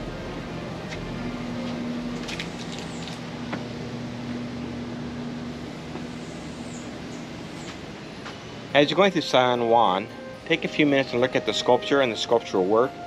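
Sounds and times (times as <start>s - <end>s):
engine hum: 0.0s - 13.0s
street background noise: 0.0s - 13.0s.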